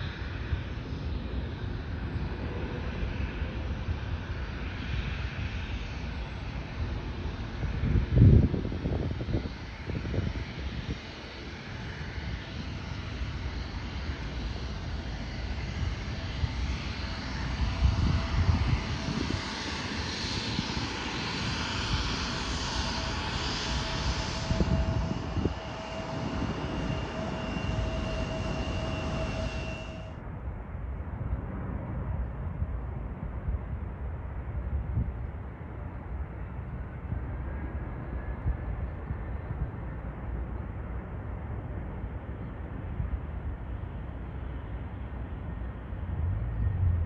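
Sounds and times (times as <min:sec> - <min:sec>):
jet engines roaring with whine: 0:00.0 - 0:47.0.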